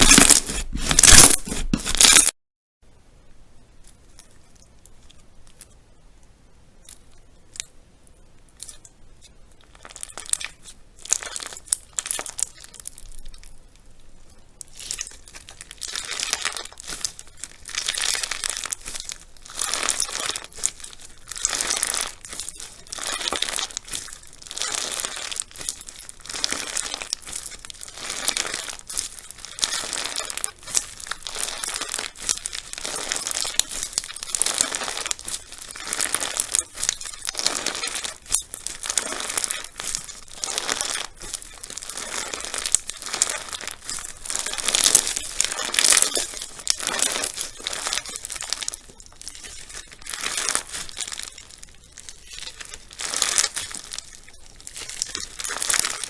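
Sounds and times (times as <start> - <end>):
crunchy slime squishing: 0.0 - 2.4, 8.4 - 56.0.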